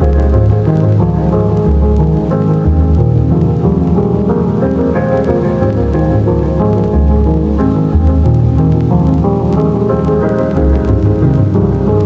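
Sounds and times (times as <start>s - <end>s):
held chords over deep bass: 0.0s - 12.0s.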